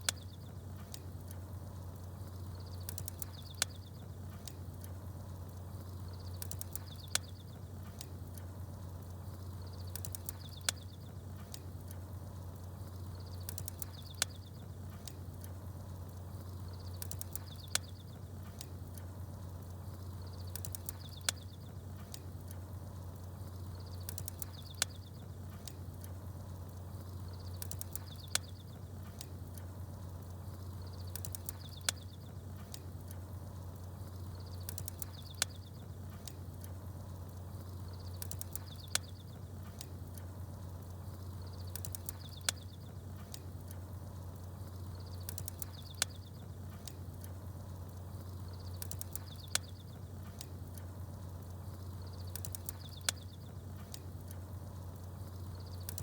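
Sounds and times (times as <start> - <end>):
campfire crackling: 0.0 - 56.0
small birds chirping: 0.0 - 56.0.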